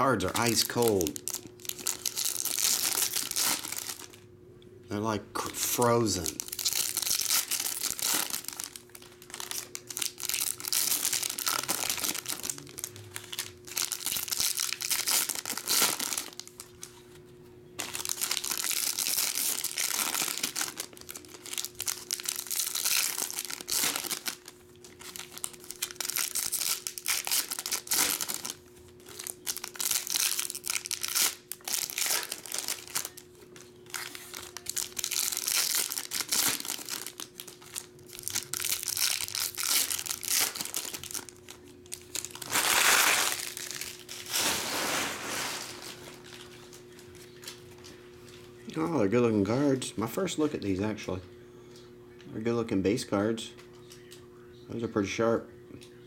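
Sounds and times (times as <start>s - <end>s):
foil wrappers crinkling and tearing: 0.2s - 4.2s, 5.4s - 17.0s, 17.8s - 48.4s.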